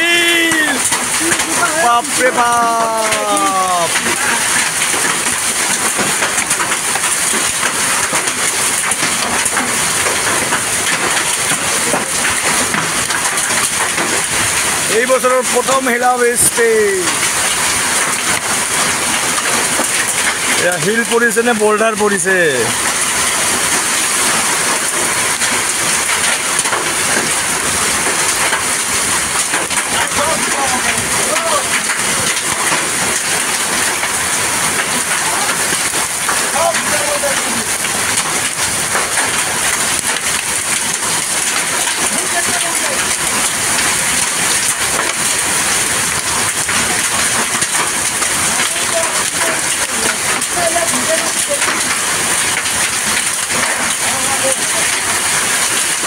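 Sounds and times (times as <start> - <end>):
hailstones clattering: 0.0 - 56.0
rain hissing: 0.0 - 56.0.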